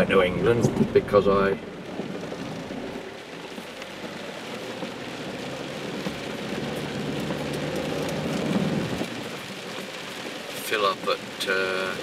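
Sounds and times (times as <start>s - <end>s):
car engine hum: 0.0s - 12.0s
rain and tyre spray hiss: 0.0s - 12.0s.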